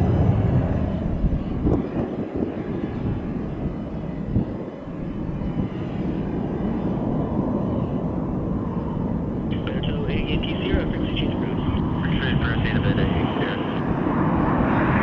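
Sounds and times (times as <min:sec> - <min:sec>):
jet engine rumble: 0:00.0 - 0:15.0
jet engines on approach: 0:00.0 - 0:15.0.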